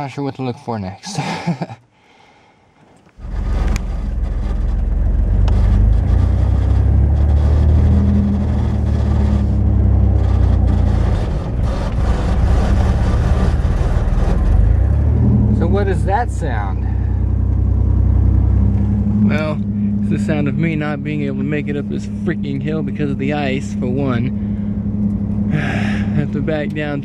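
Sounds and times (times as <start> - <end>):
pickup truck engine rumbling: 3.1 - 27.0.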